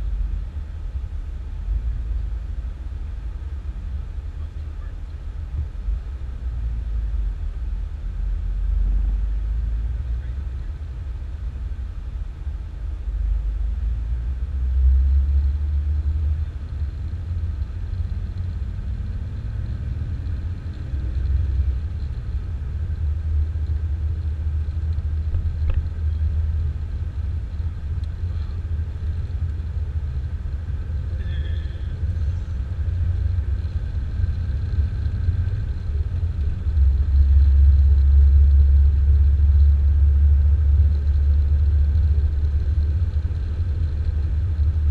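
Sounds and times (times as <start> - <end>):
car engine rumble: 0.0 - 44.9
road noise: 0.0 - 44.9.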